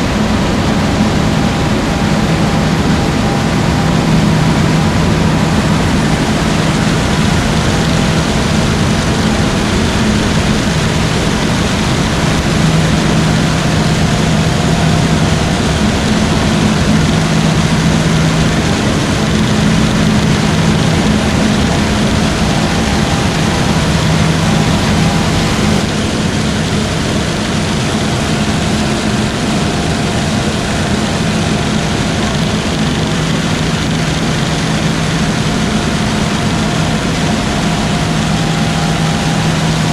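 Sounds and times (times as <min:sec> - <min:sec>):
harvest machinery running: 0:00.0 - 0:39.9.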